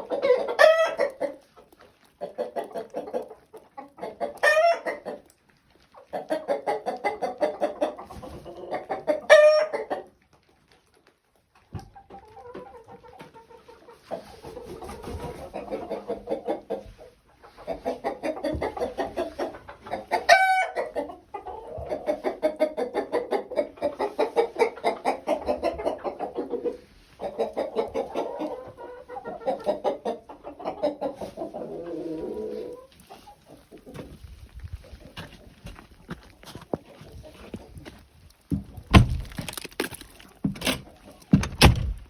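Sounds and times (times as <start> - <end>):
chickens clucking: 0.0 - 39.6.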